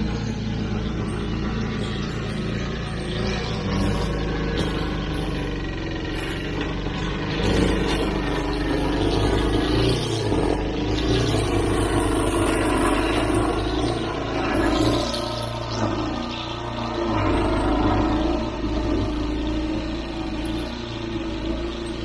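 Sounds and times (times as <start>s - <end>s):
lawn mower engine cutting grass: 0.0s - 22.0s.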